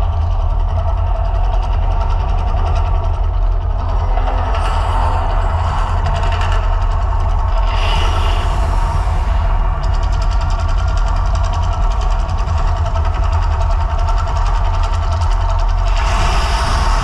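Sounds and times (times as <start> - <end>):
deep rumble: 0.0 - 17.0.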